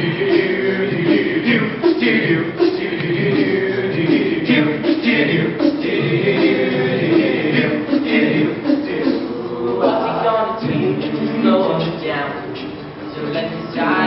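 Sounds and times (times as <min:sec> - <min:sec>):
a cappella group singing in harmony: 0:00.0 - 0:14.0.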